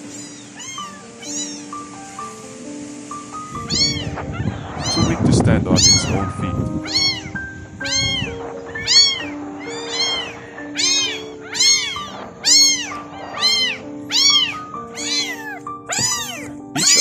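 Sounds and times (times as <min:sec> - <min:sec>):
kitten meowing: 0:00.0 - 0:01.9, 0:03.5 - 0:17.0
soft background music: 0:00.0 - 0:17.0.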